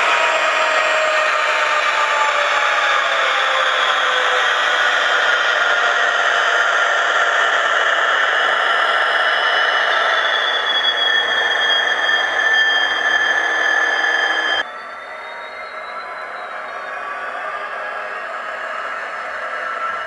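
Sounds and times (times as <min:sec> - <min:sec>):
buzzing diesel engine sound: 0:00.0 - 0:20.0
high whining tones: 0:00.0 - 0:20.0.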